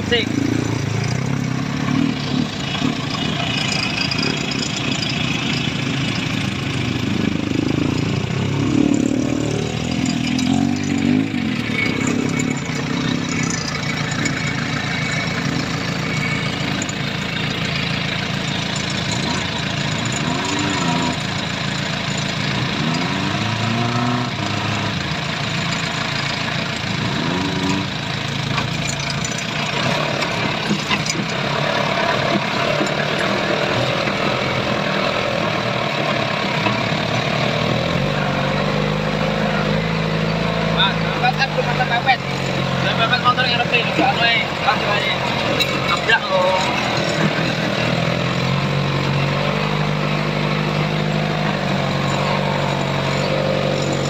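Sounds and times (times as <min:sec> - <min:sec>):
off-road engines revving under load: 0:00.0 - 0:54.0.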